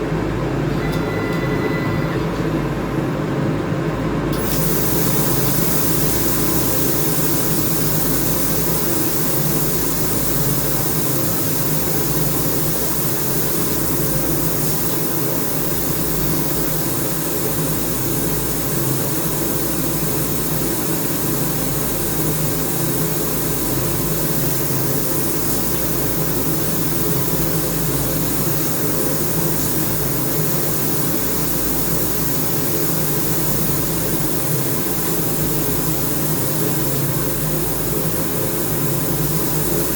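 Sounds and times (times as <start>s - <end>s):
welding machine humming: 4.3s - 39.9s
welding torch hissing: 4.3s - 39.9s.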